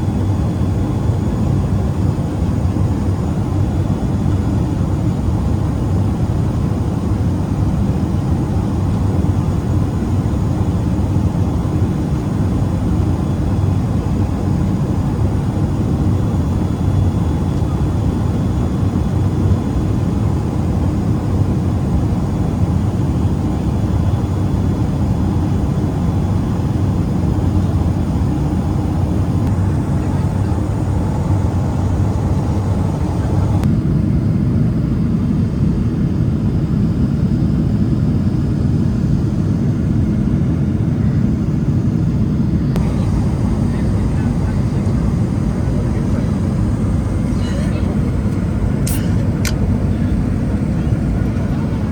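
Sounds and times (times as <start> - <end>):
airplane cabin engine drone: 0.0 - 51.9.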